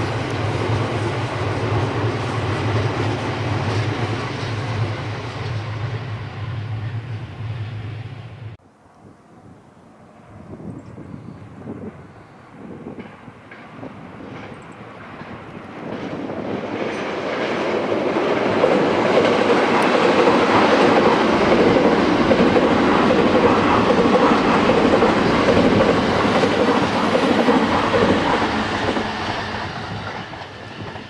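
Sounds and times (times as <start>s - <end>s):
train wheels on rails: 0.0s - 8.6s, 11.6s - 31.0s.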